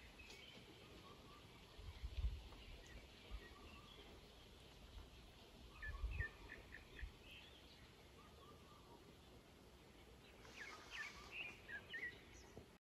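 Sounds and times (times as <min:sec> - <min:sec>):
birds calling faintly: 0:00.0 - 0:12.8.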